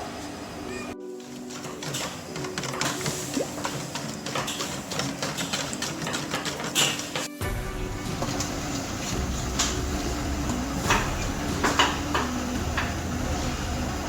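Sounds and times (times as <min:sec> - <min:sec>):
pots and utensils clanking: 0:00.9 - 0:14.0.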